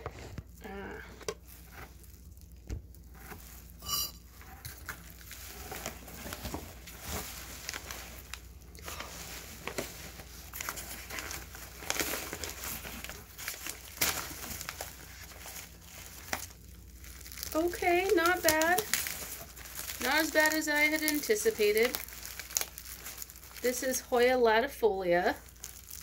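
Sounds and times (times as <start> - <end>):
newspaper crumpling and rustling: 0.0 - 26.0.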